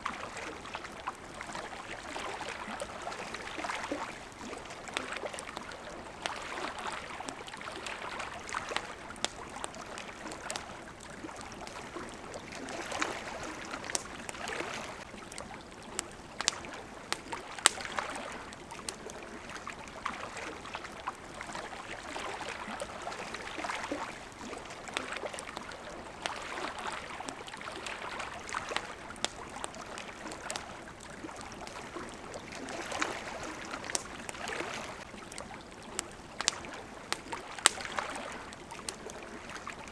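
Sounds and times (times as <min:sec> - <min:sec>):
campfire crackling: 0:00.0 - 0:39.9
small waves lapping at shore: 0:00.0 - 0:39.9.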